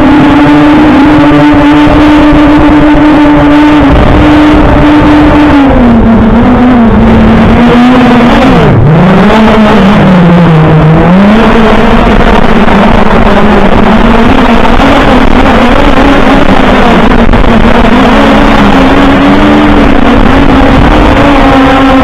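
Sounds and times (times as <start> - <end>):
drone propellers buzzing: 0.0 - 22.0
wind noise: 0.0 - 22.0.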